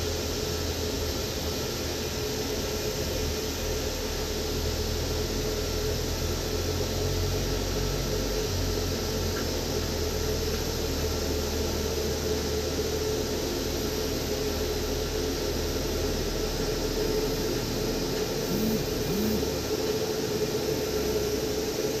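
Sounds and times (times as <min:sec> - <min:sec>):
machinery hiss and hum: 0:00.0 - 0:22.0
constant whine: 0:00.1 - 0:22.0.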